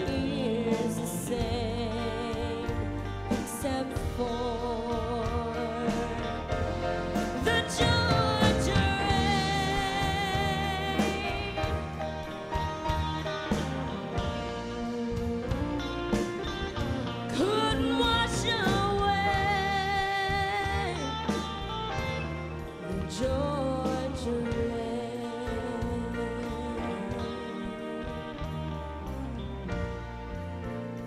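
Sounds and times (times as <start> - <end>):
live country band playing: 0.0 - 31.0.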